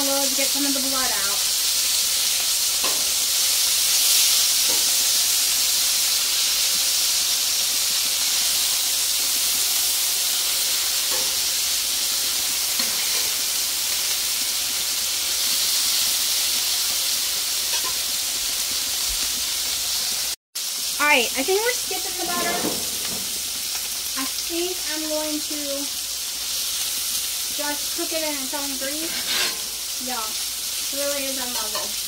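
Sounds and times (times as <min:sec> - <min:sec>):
patties sizzling on griddle: 0:00.0 - 0:32.0.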